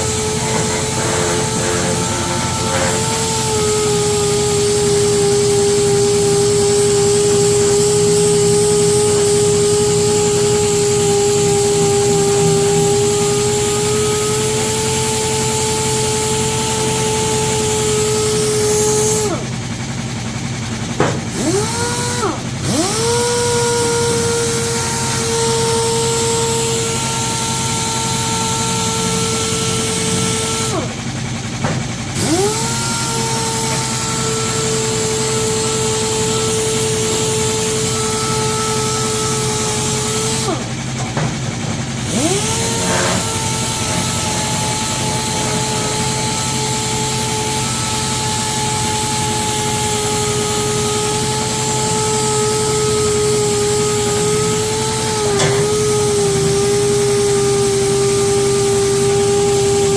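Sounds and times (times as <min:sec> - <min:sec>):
sander whining: 0:00.0 - 0:59.9.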